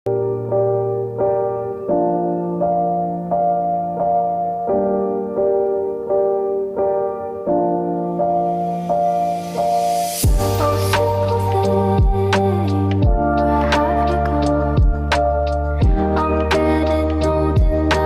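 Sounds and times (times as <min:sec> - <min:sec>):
gentle piano music: 0:00.1 - 0:18.0.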